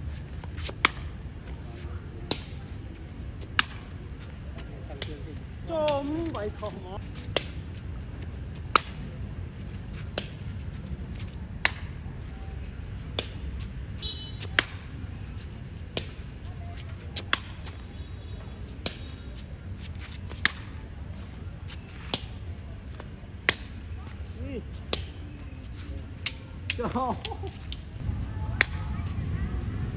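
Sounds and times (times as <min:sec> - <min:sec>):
foot slapping shuttlecock: 0:00.0 - 0:12.2, 0:13.0 - 0:29.2.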